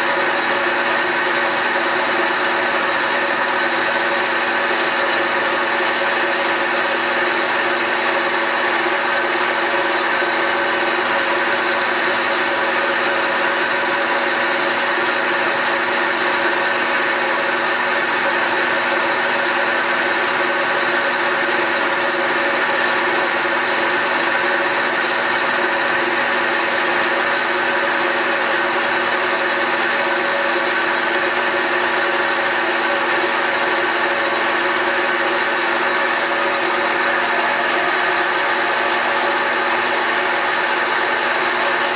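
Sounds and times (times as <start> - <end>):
lathe machine hum: 0.0 - 41.9.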